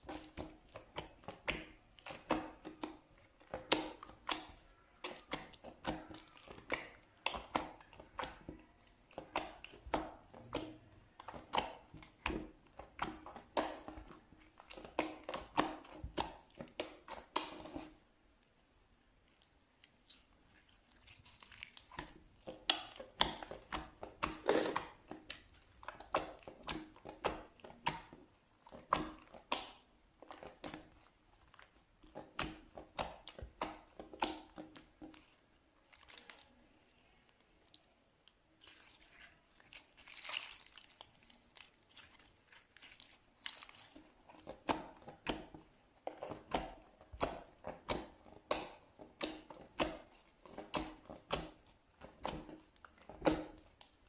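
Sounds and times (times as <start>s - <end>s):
slime squished by hand: 0.0s - 54.0s.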